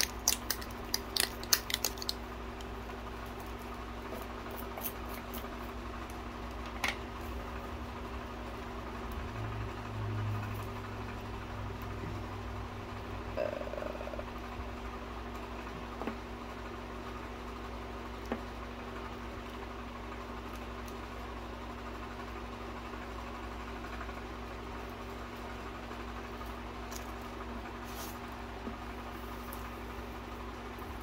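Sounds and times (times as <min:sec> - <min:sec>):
background hum: 0:00.0 - 0:31.0.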